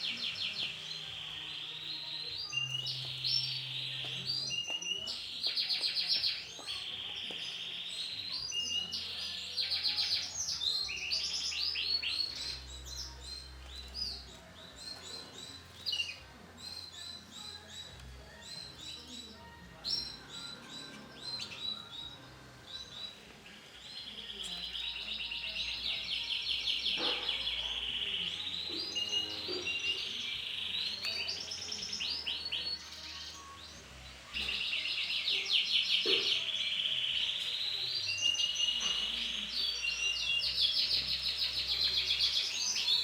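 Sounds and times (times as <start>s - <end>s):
canary chirping and trilling: 0.0s - 43.0s.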